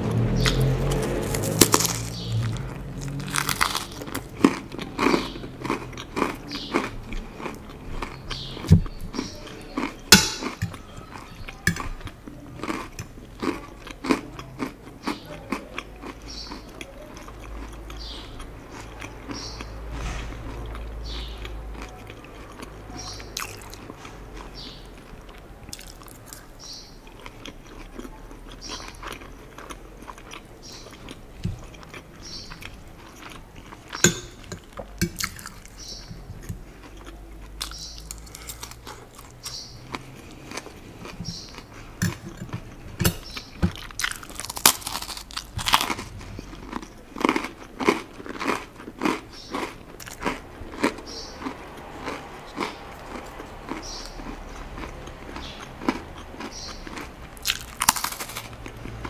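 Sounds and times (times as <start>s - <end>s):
cracker crunching: 0.2s - 59.0s.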